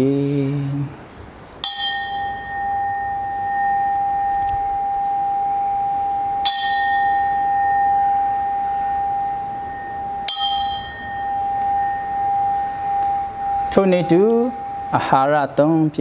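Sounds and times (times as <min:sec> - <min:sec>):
altar bell ringing: 0:01.6 - 0:16.0.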